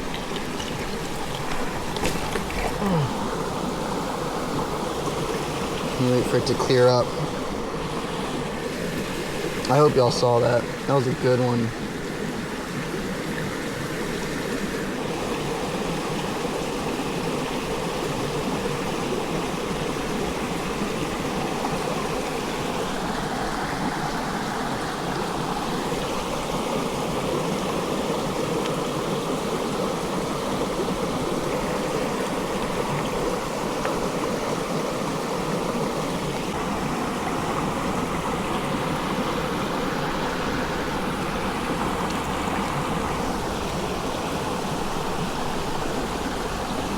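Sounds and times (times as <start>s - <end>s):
stream water rushing: 0.0s - 46.9s.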